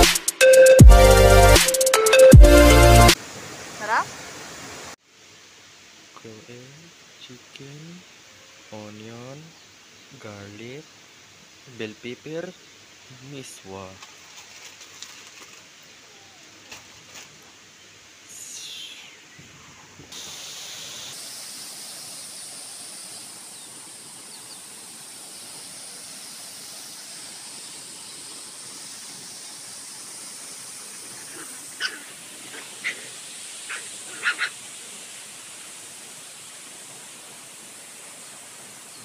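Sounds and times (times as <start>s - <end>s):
outdoor background hiss: 0.0s - 39.0s.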